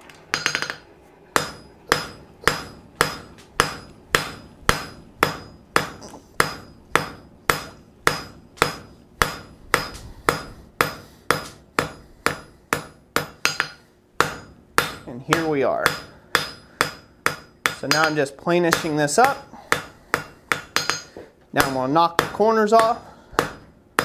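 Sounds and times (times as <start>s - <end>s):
hammer striking steel on anvil: 0.3s - 24.0s.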